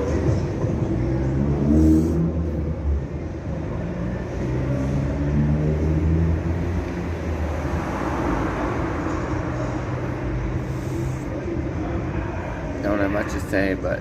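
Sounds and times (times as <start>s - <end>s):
road noise hiss: 0.0s - 13.8s
vehicle engine humming: 0.0s - 14.0s.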